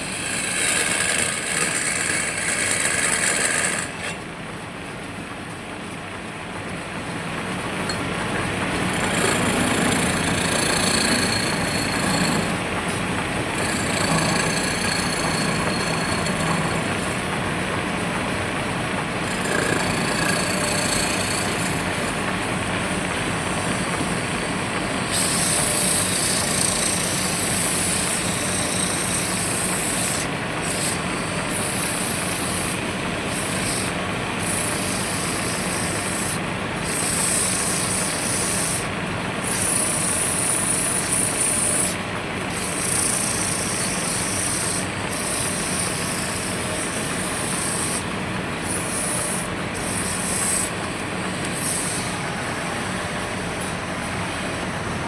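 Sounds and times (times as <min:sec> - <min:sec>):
bandsaw mill cutting timber: 0:00.0 - 0:04.2, 0:08.3 - 0:54.3.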